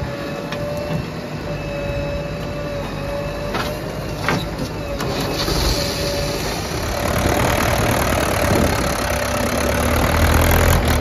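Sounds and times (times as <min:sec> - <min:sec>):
diesel engines running: 0:00.0 - 0:11.0
steady whine: 0:00.0 - 0:11.0.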